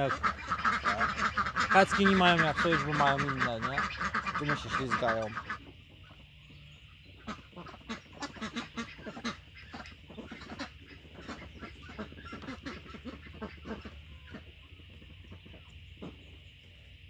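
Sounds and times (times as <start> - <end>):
duck quacking: 0.0 - 6.2, 7.1 - 16.2.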